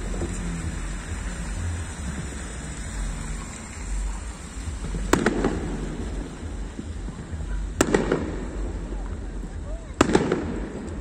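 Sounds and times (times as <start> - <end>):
firework shell bursting: 0.0 - 11.0
steady background rumble: 0.0 - 11.0.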